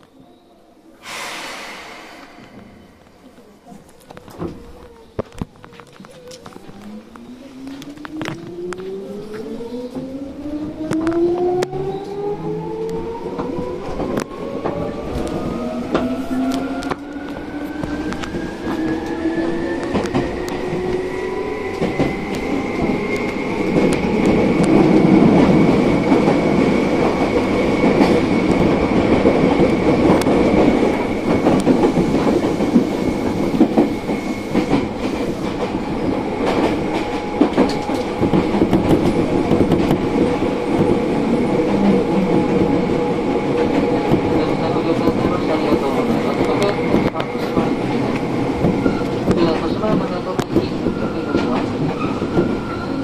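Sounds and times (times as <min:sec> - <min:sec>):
train wheels rumbling on rails: 0:01.0 - 0:53.0.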